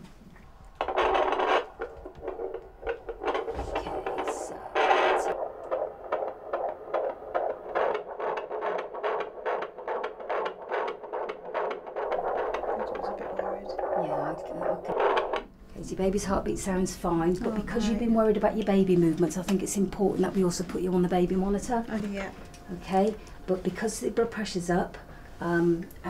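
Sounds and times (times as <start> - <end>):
fetal heartbeat whooshing pulse: 0.0 - 25.9.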